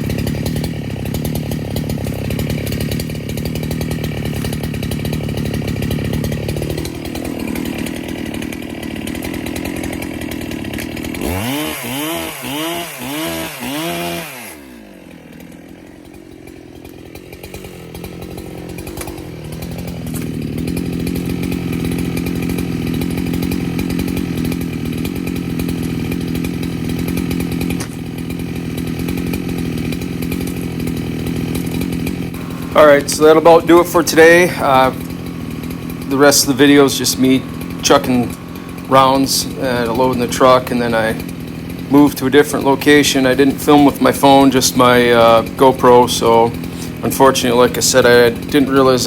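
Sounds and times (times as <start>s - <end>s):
chainsaw revving and idling: 0.0s - 49.0s.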